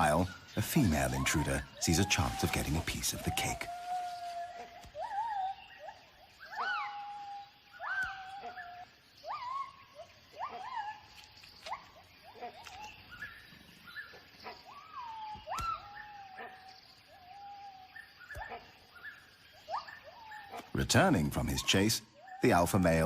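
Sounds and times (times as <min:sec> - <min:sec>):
gibbon whooping calls: 0:00.9 - 0:13.3, 0:14.0 - 0:20.7.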